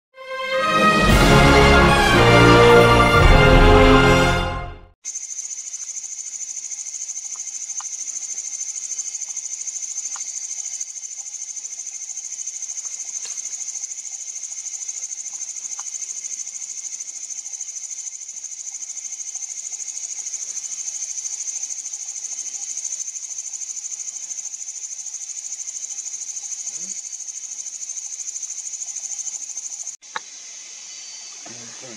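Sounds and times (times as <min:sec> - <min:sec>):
crickets chirping: 0:05.0 - 0:31.9.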